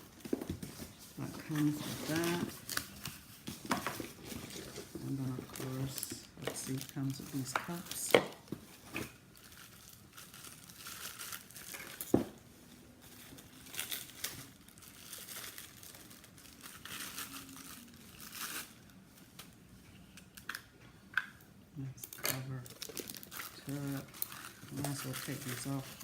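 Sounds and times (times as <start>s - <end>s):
packaging crinkling and tearing: 0.0s - 12.2s, 13.0s - 19.5s, 22.1s - 26.0s.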